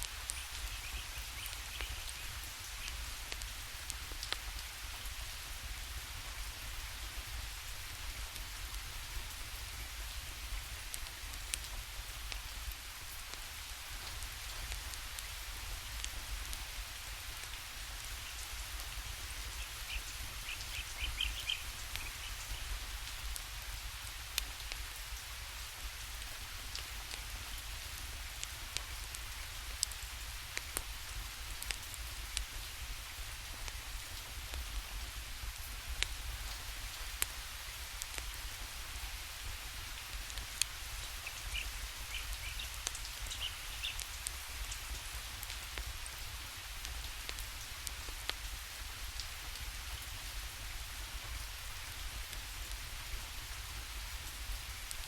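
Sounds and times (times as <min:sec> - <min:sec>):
rain hissing: 0:00.0 - 0:55.0
wood fire crackling: 0:10.3 - 0:55.0.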